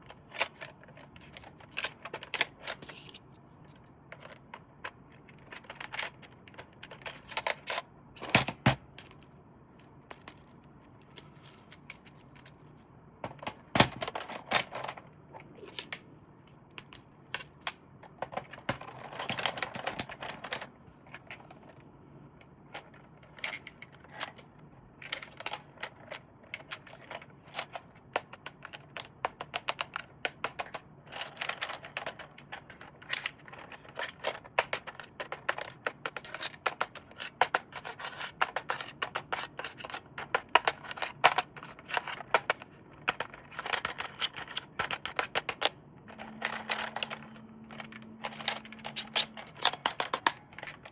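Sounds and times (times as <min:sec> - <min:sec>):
hands handling plastic toy parts: 0:00.0 - 0:50.9.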